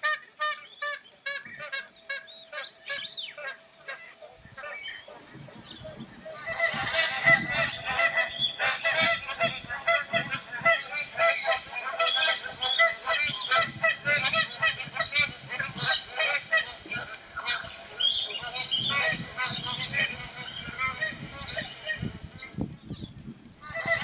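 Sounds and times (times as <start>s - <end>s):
geese honking: 0.0s - 22.8s, 23.6s - 24.0s.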